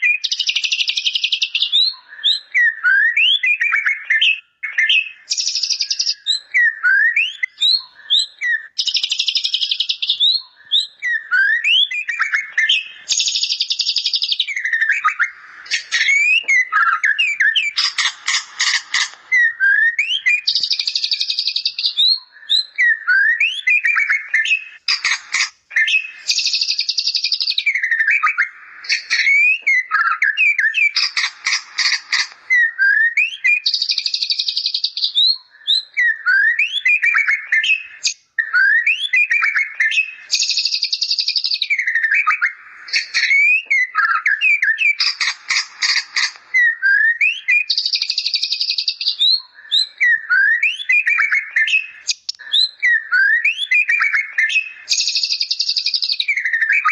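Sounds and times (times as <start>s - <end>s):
songbird singing whistles and trills: 0.0s - 56.9s.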